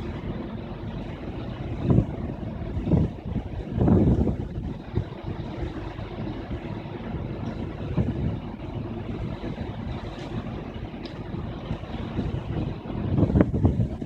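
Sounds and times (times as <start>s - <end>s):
ship engine rumble: 0.0s - 14.0s
wind on microphone: 0.0s - 14.0s.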